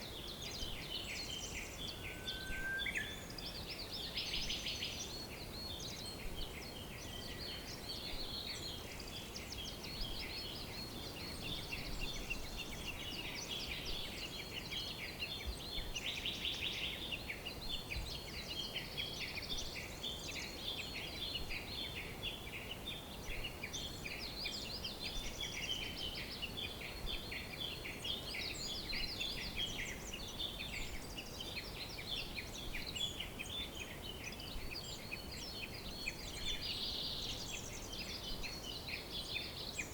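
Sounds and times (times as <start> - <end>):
faint background hiss: 0.0 - 39.9
songbirds chirping and trilling: 0.0 - 39.9.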